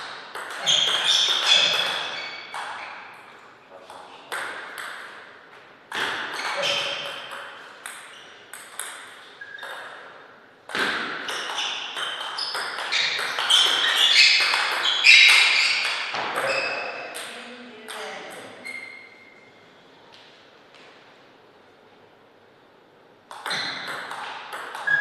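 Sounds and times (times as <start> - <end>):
table tennis ball hits: 0.0 - 18.6, 23.3 - 25.0.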